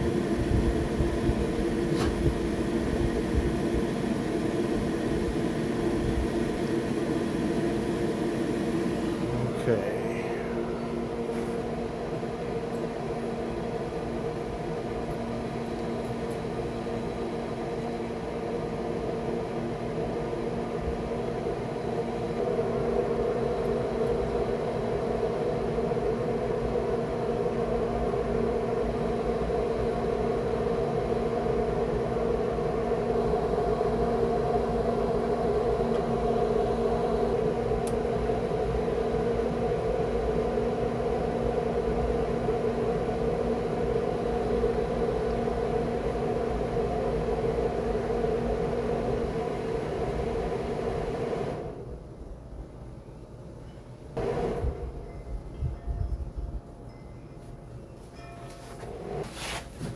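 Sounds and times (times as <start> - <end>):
grill fan humming: 0.0 - 53.1, 54.1 - 59.9.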